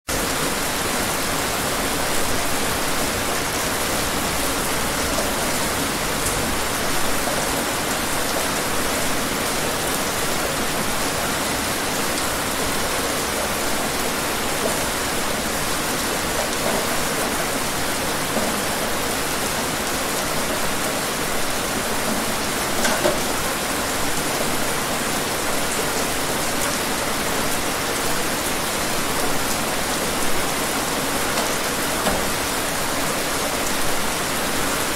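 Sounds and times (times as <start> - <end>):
louder raindrops: 0.1 - 34.9
steady rain hiss: 0.1 - 34.9.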